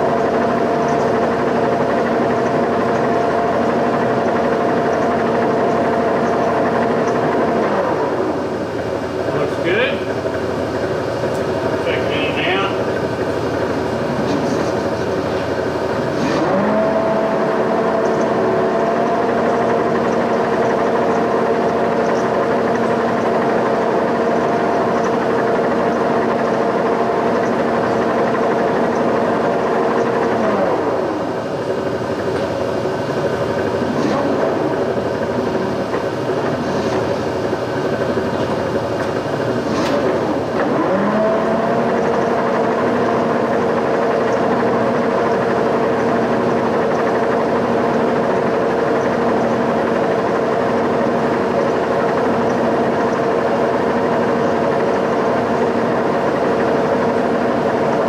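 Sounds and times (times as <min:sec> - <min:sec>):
boring mill motor whine: 0:00.0 - 0:58.0.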